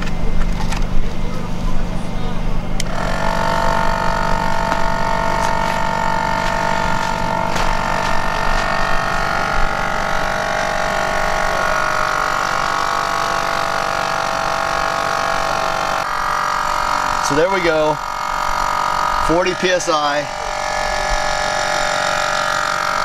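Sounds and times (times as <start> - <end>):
air compressor motor whine: 0.0 - 23.0.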